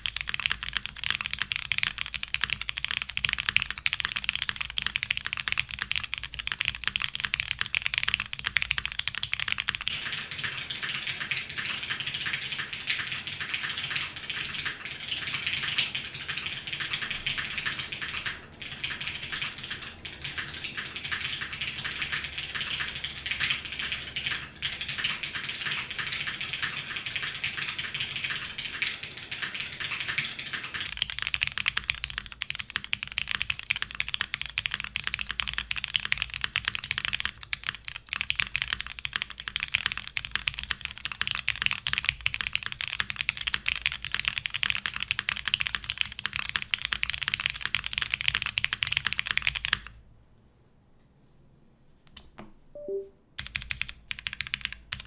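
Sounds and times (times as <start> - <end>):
typing on mechanical keyboard: 0.0 - 50.0, 52.8 - 55.0.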